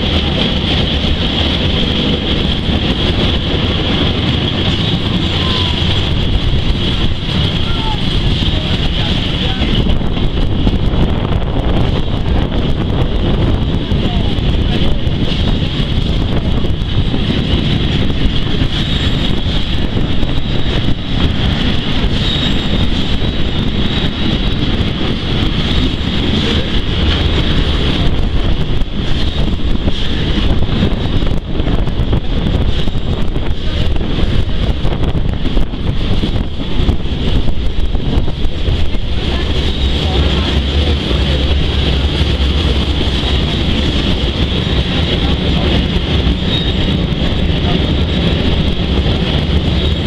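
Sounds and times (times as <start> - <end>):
steam train running: 0.0 - 50.0
wind buffeting microphone: 0.0 - 50.0.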